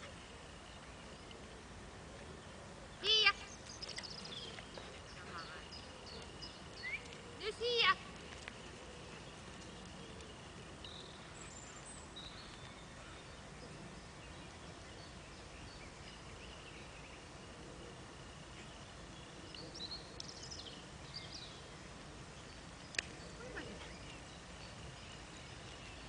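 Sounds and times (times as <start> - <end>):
steady low background noise: 0.0 - 26.0.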